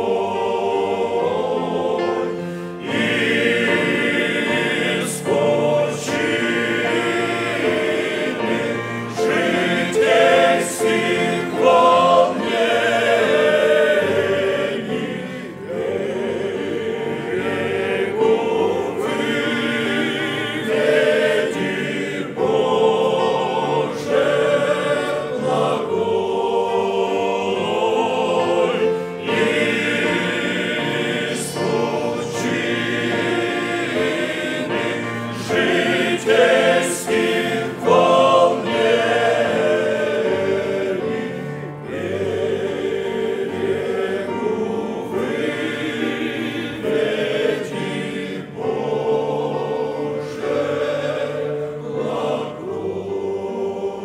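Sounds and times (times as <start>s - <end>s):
men's choir singing a hymn: 0.0s - 54.0s.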